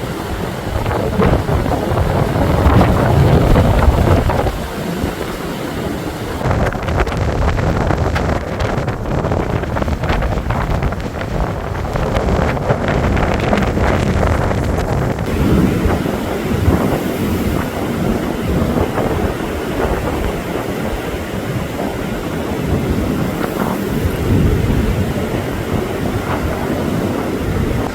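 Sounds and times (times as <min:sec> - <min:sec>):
blizzard wind gusting: 0:00.0 - 0:27.9.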